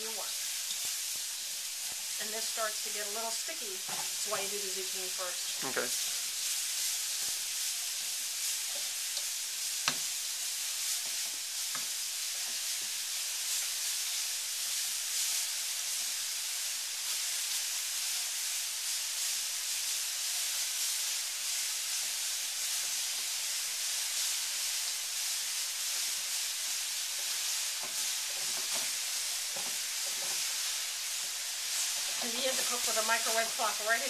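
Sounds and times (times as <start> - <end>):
carrots sizzling in oil: 0.0 - 34.0.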